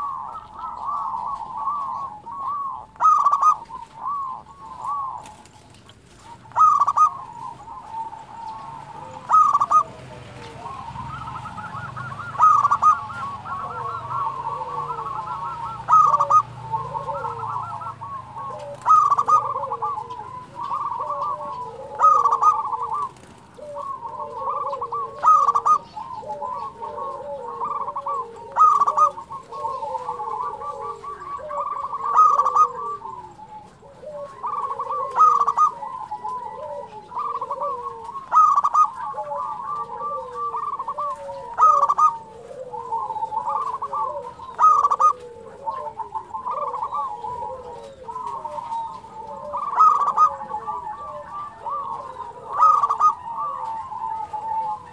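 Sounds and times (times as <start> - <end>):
dove cooing rapidly: 0.0 - 54.9
softer falling coos: 0.0 - 54.9.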